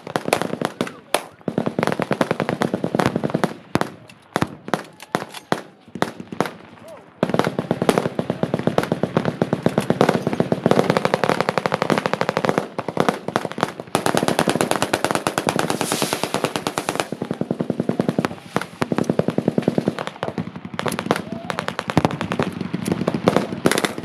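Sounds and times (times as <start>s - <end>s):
machine guns firing bursts: 0.0s - 24.0s.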